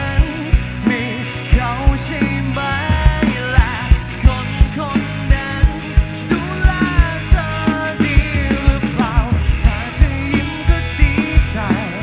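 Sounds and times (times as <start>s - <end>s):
bass: 0.0s - 12.0s
live pop-rock band playing: 0.0s - 12.0s
steady drum beat: 0.0s - 12.0s.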